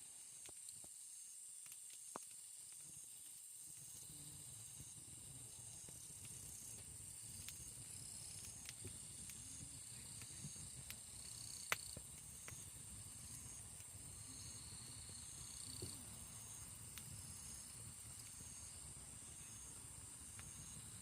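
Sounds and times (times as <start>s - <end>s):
campfire crackling and popping: 0.0s - 21.0s
insect drone with chirps: 0.0s - 21.0s.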